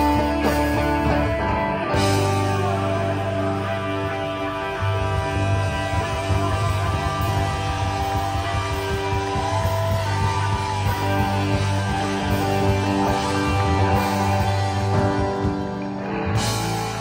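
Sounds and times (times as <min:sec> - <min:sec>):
electric guitar note bending: 0:00.0 - 0:17.0
live rock band playing: 0:00.0 - 0:17.0.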